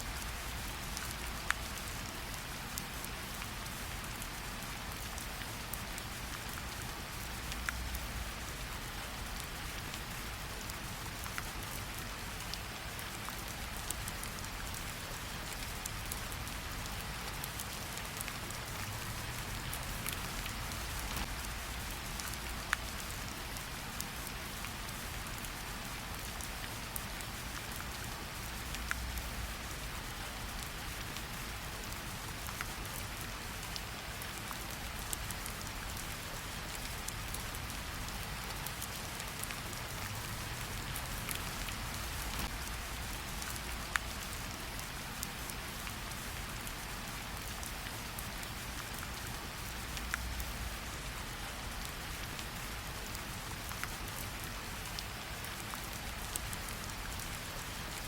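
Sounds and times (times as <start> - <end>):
light rain on leaves: 0.0 - 58.0.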